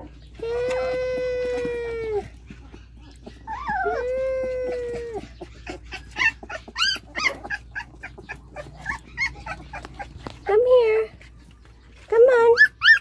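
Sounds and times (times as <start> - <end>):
puppy crying and squeaking: 0.0 - 10.8, 12.4 - 13.0.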